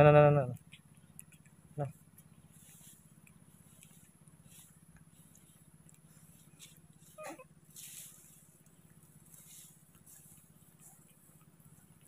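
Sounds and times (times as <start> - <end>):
steady low hum: 0.0 - 12.0
soft rustles: 0.8 - 12.0.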